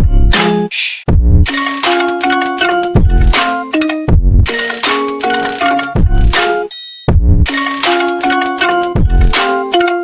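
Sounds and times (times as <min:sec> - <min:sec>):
electronic music with bass beat: 0:00.0 - 0:09.7.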